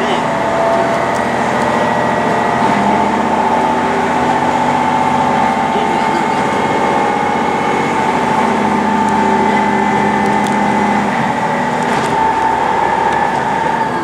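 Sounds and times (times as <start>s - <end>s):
train rumbling at speed: 0.0s - 14.0s.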